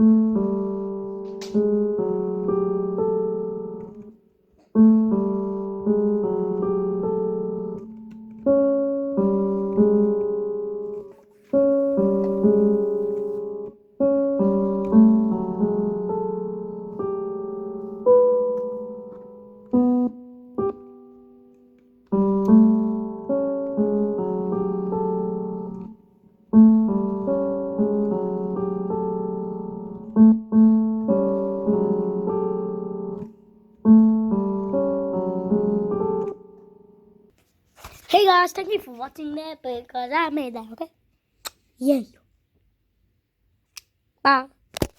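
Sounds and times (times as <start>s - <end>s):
slow spooky piano chords: 0.0s - 37.3s.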